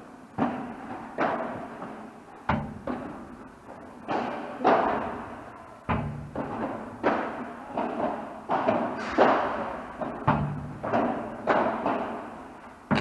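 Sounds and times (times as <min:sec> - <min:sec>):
ball struck by rackets: 0:00.4 - 0:03.4, 0:04.1 - 0:13.0.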